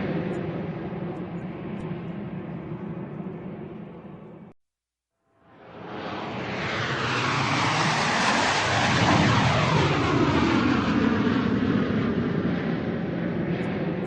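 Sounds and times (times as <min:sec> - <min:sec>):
airplane flying overhead: 0:00.0 - 0:04.6, 0:05.4 - 0:14.0.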